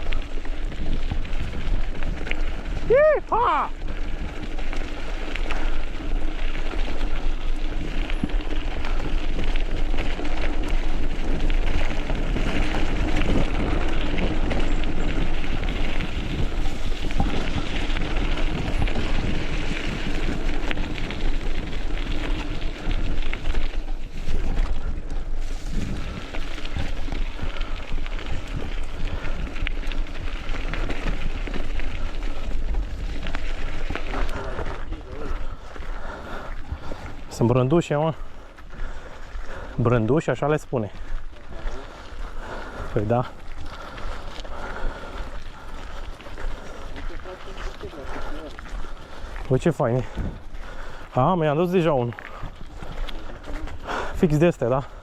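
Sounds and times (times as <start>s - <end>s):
wind buffeting microphone: 0.0s - 40.2s, 41.0s - 54.2s
bike tyres crackling over ground: 0.0s - 55.0s.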